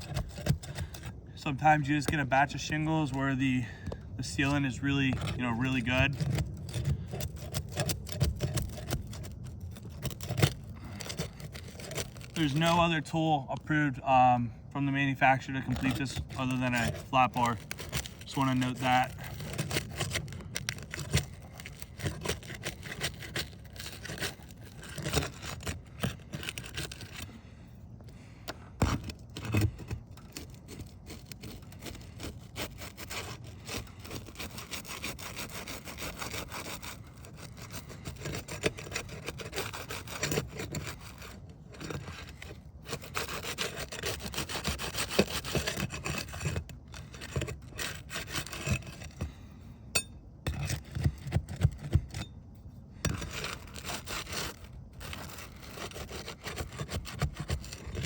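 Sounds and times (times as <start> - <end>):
metal bar scraping shingles: 0.0 - 27.5, 28.1 - 52.3, 53.0 - 58.0.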